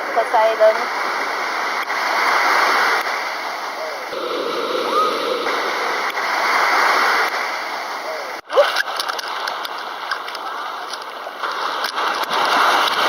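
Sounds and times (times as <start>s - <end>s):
ocean surf washing onto beach: 0.6s - 8.4s, 9.4s - 13.0s.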